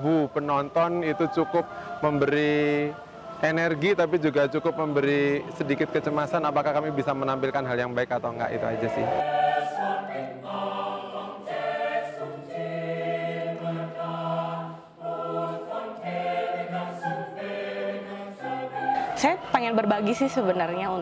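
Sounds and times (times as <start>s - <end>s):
mixed choir singing: 0.0s - 21.0s.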